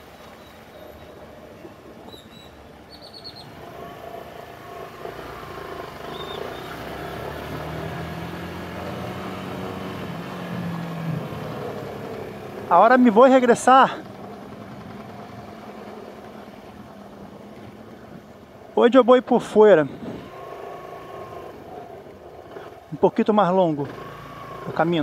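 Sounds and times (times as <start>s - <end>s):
traffic noise: 0.0s - 25.0s
wind: 0.0s - 25.0s
motorcycle running at low speed: 2.8s - 25.0s.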